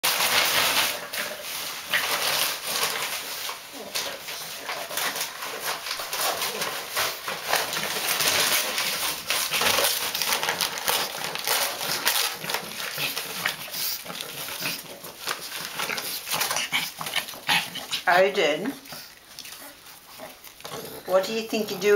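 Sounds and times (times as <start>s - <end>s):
paper crinkling and tearing: 0.0s - 21.9s.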